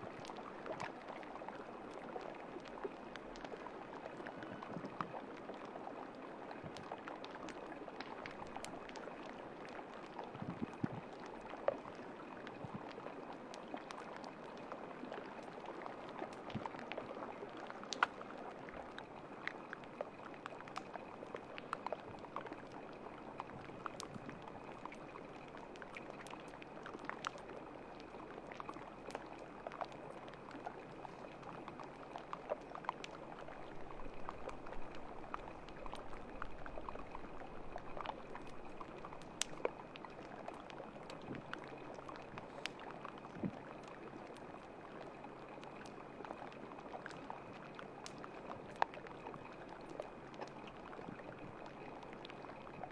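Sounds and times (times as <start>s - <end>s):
small ice clicks and pops: 0.0s - 52.9s
water lapping and trickling: 0.0s - 52.9s.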